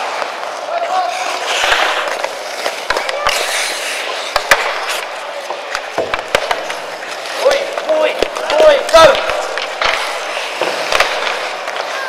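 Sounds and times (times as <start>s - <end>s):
hockey sticks and puck clacking: 0.0s - 12.0s
ice skates scraping: 0.0s - 12.0s.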